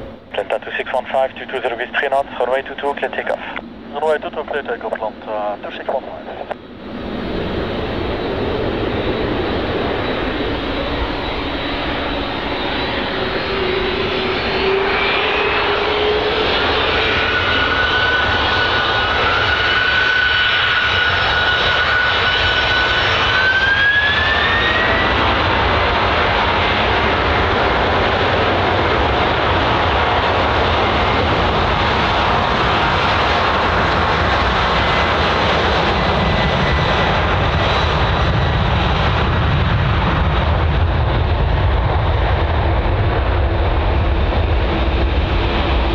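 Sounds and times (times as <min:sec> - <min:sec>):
jet engines spooling up: 0:00.0 - 0:45.9.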